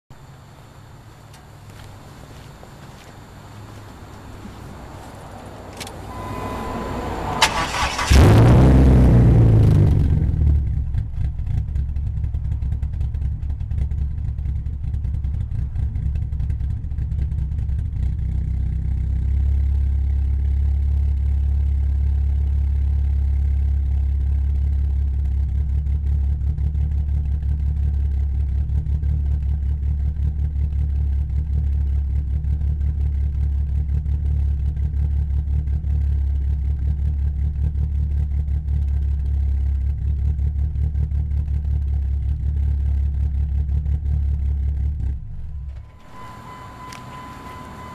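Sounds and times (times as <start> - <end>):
car engine idling: 0.2 - 47.9.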